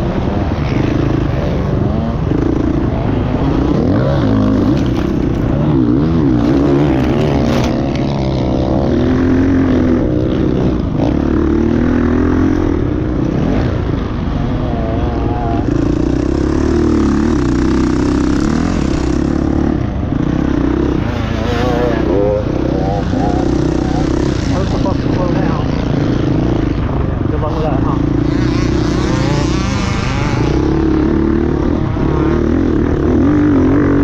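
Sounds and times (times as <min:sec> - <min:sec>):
motocross bikes revving: 0:00.0 - 0:34.0.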